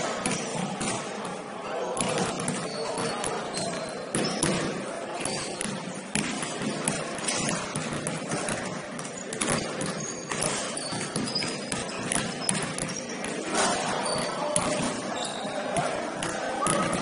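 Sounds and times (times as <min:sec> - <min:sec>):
basketball bouncing on gym floor: 0:02.0 - 0:15.0, 0:16.1 - 0:17.0.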